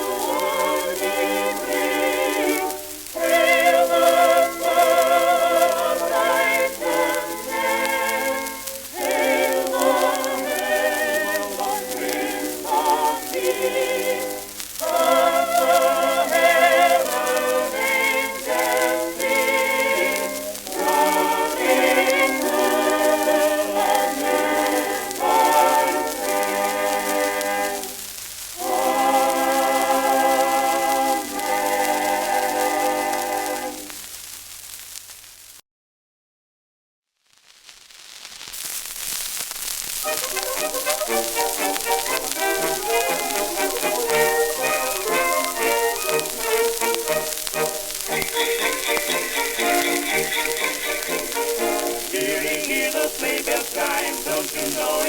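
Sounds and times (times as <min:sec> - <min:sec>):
old record of holiday music: 0:00.0 - 0:35.2, 0:38.0 - 0:55.0.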